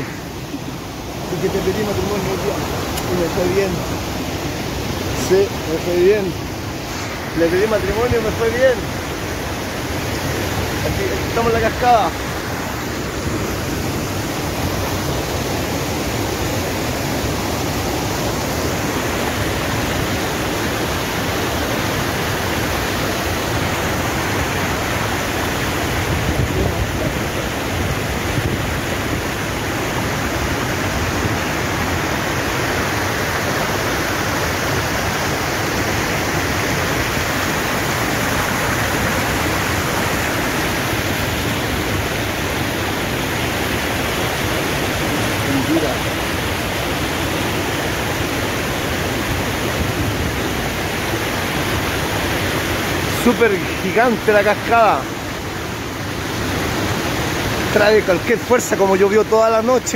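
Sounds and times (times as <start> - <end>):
large waterfall rushing: 0.0 - 59.9.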